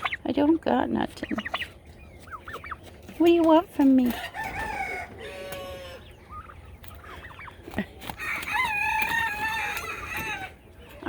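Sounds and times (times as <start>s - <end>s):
poultry calling: 0.9s - 11.0s.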